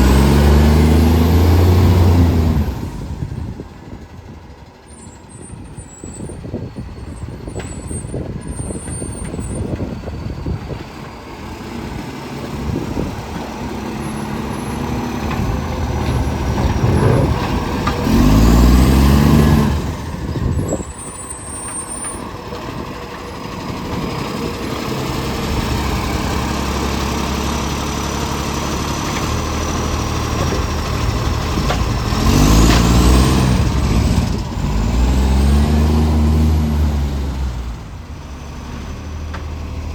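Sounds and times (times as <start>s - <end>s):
truck engine roaring and revving: 0.0s - 39.9s.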